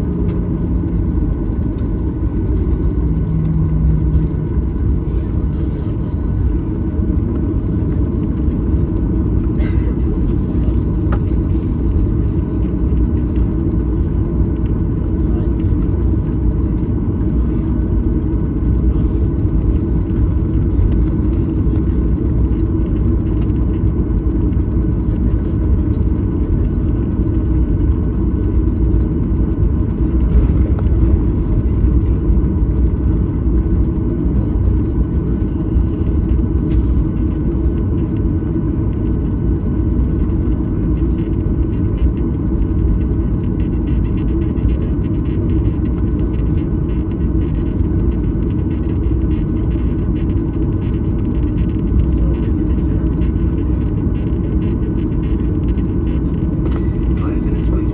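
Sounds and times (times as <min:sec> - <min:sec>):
faint engine whine: 0:00.0 - 0:57.9
jet engine rumble in cabin: 0:00.0 - 0:57.9.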